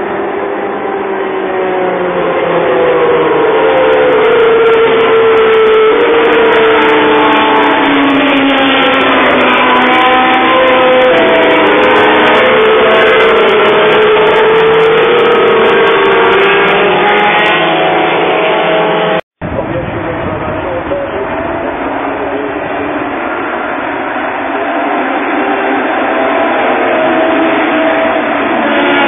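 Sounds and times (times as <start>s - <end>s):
race cars passing at high revs: 0.0s - 29.0s.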